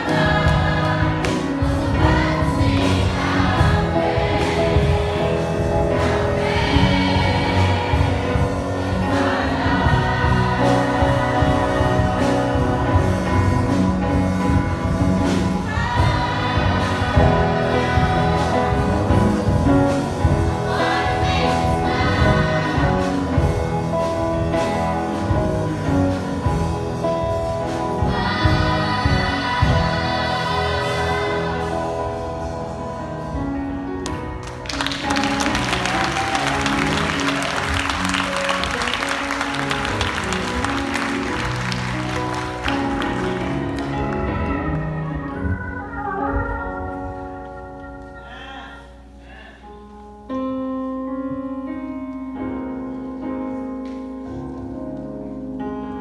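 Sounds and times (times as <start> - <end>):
choir singing gospel: 0.0 - 33.9, 34.7 - 49.7
instrumental accompaniment: 0.0 - 56.0.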